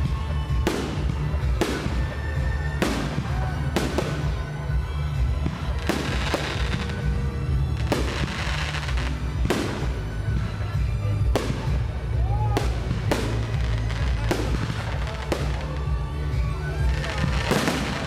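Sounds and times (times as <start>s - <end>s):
music with steady bass: 0.0s - 18.0s.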